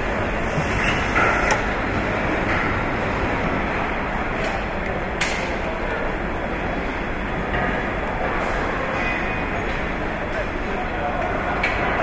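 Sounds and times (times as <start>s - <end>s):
assembly line machinery hum and hiss: 0.0s - 12.0s.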